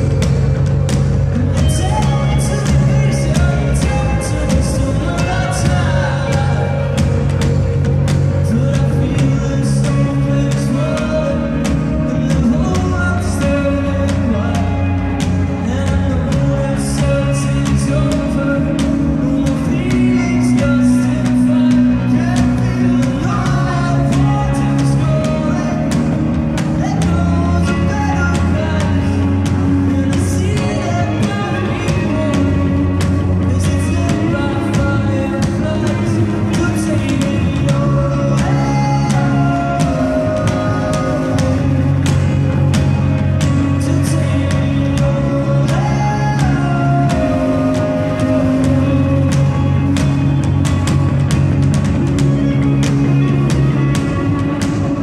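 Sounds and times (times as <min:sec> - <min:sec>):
bass notes: 0:00.0 - 0:55.0
electric guitars: 0:00.0 - 0:55.0
keyboard: 0:00.0 - 0:55.0
person singing: 0:00.0 - 0:55.0.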